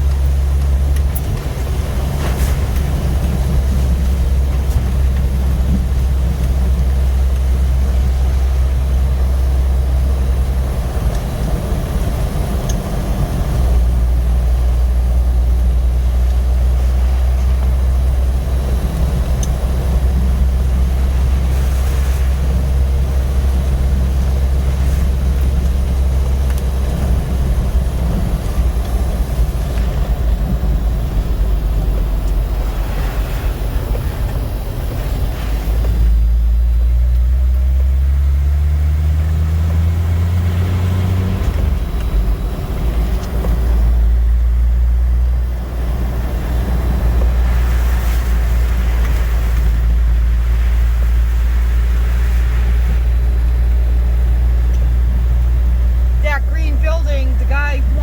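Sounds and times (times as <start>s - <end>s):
engine and road rumble inside car: 0.0s - 58.0s.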